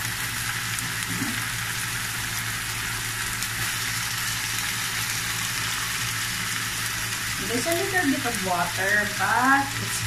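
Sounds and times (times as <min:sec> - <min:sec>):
sauce sizzling in a frying pan: 0:00.0 - 0:10.0.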